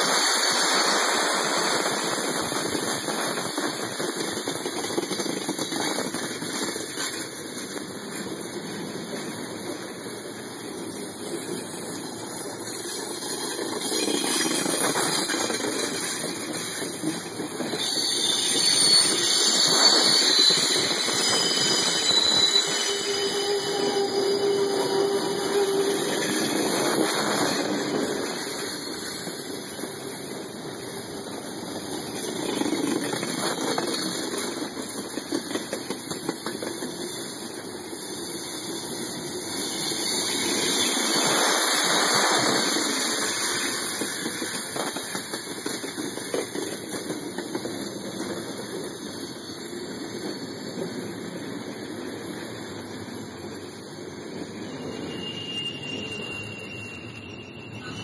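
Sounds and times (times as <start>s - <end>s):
freight train wheels on rails: 0.0s - 58.0s
high wheel squeal: 8.1s - 58.0s.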